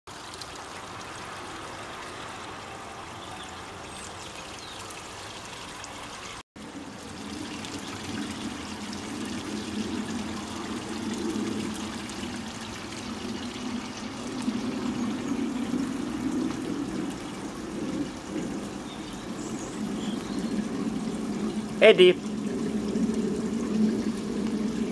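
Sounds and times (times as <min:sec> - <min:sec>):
fountain water trickling: 0:00.1 - 0:24.9.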